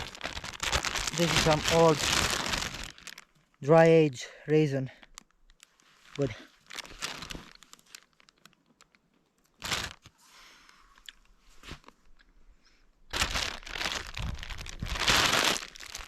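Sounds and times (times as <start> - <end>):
crunching and crinkling: 0.0 - 3.7, 4.8 - 12.4, 13.1 - 16.0.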